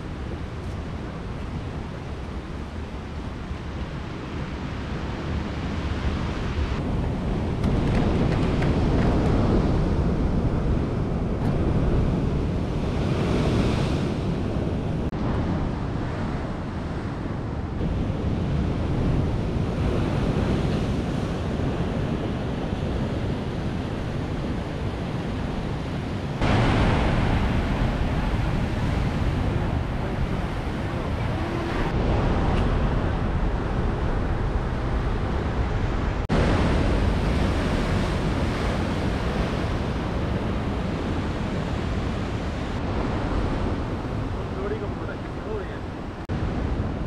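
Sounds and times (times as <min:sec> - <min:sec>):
ocean surf on rocks: 0:00.0 - 0:47.0
wind rumbling on microphone: 0:00.0 - 0:47.0.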